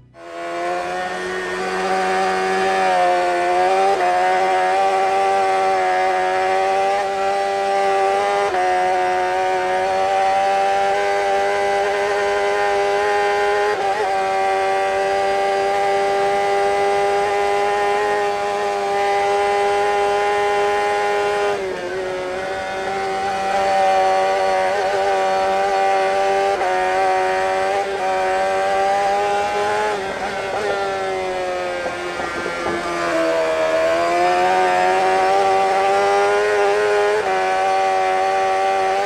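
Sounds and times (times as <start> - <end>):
racing motorcycle engine at high revs: 0.0 - 39.0.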